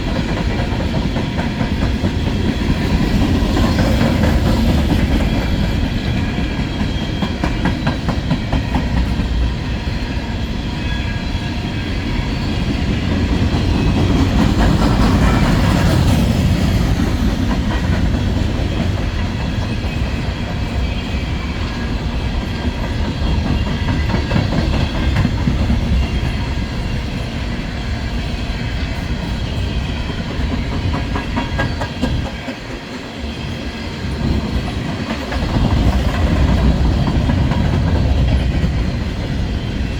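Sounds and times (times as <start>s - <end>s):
train wheels clicking over rail joints: 0.0s - 10.5s, 11.2s - 39.9s
freight train rumbling: 0.0s - 39.9s.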